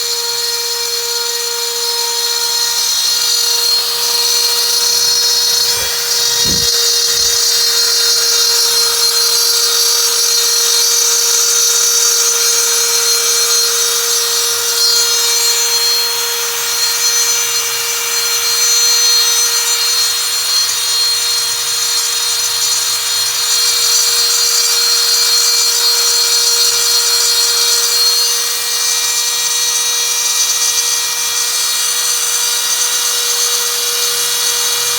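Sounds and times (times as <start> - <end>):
router spindle whine and cutting hiss: 0.0 - 34.9.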